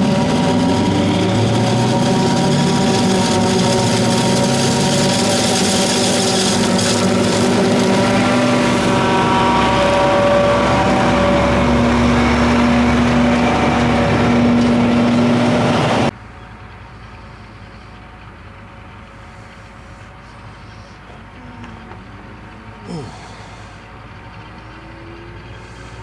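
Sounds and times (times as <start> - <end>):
forage harvester machine drone: 0.0 - 26.0.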